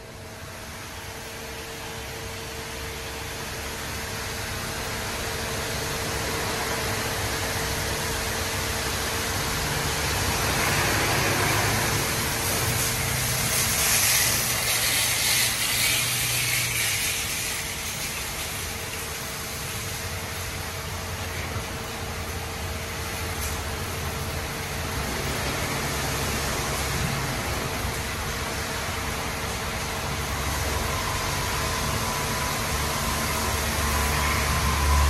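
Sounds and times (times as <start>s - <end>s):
car wash machinery hiss and hum: 0.0s - 35.0s.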